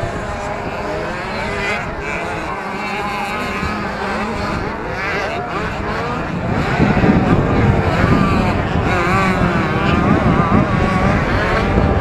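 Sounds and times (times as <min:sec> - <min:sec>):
motocross bikes racing: 0:00.0 - 0:12.0.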